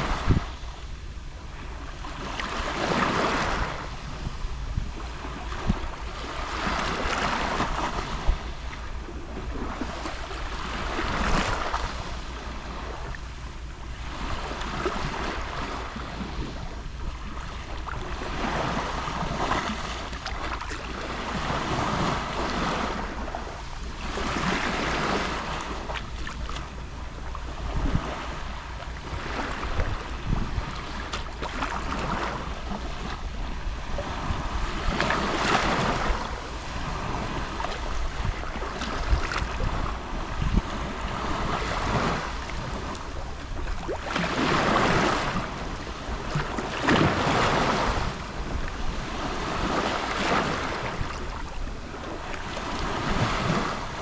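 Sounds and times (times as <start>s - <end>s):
gentle waves lapping on shore: 0.0s - 54.0s.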